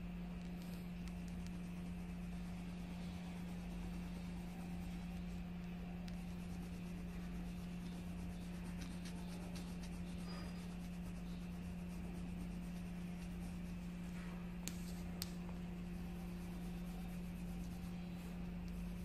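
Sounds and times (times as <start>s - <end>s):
steady low hum: 0.0s - 19.0s
pen scratching on paper: 0.6s - 19.0s.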